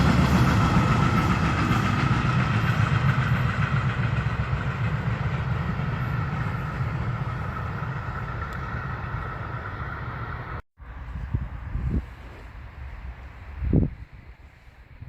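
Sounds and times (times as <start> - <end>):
train rumbling past: 0.0 - 14.5
faint wind: 0.0 - 15.0.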